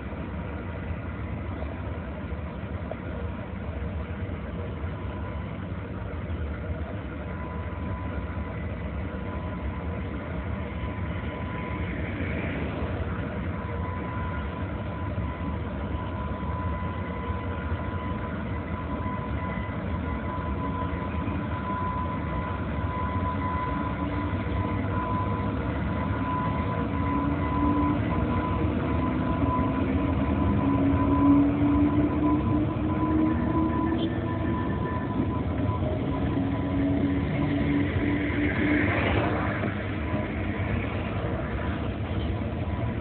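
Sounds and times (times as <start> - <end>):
constant high tone: 0.0 - 43.0
train rumbling: 0.0 - 43.0.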